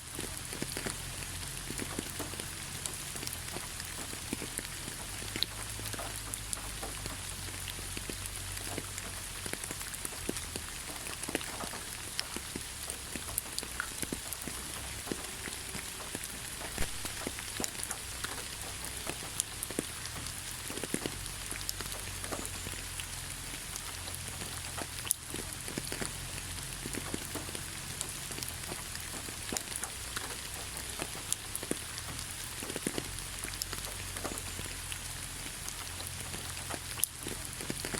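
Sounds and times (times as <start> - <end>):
rain falling on leaves: 0.0 - 37.9.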